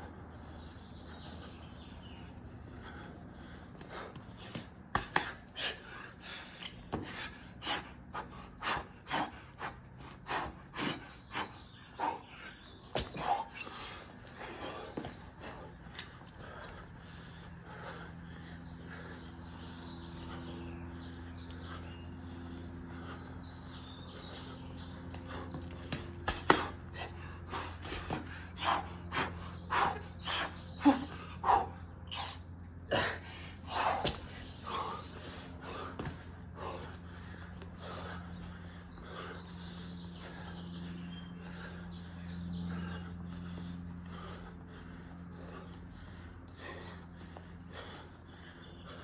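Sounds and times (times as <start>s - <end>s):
man breathing hard: 0.0s - 49.0s
steady low hum: 0.0s - 49.0s.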